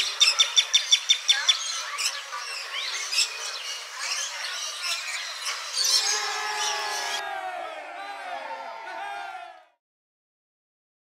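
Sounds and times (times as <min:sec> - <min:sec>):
birds chirping: 0:00.0 - 0:09.5.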